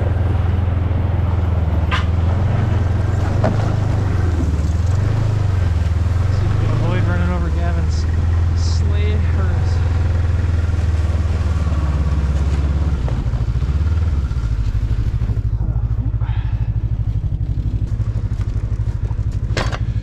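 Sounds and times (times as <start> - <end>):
small gasoline engine running: 2.1 - 20.0.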